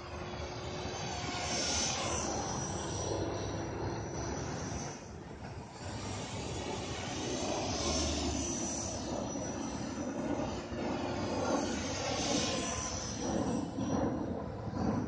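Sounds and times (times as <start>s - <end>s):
helicopter rotor blades: 0.0s - 15.0s
rc helicopter motor whine: 0.0s - 15.0s.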